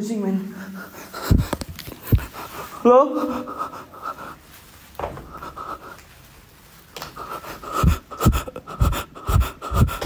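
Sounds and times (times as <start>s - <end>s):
person breathing hard: 0.5s - 6.2s, 7.0s - 10.0s.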